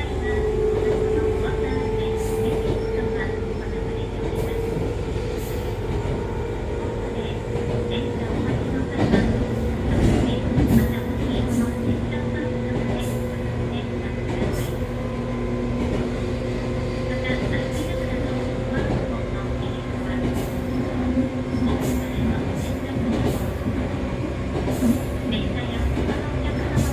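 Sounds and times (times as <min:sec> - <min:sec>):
wheels rumbling on rails: 0:00.0 - 0:26.9.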